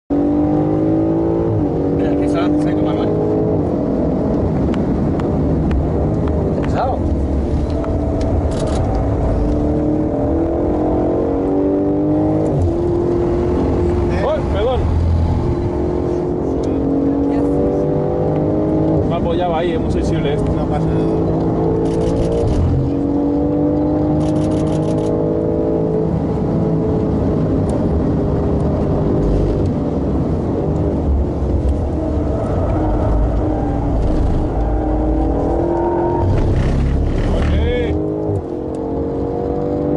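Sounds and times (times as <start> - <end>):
car engine accelerating: 0.1 - 39.9
road and tyre rumble: 0.1 - 39.9.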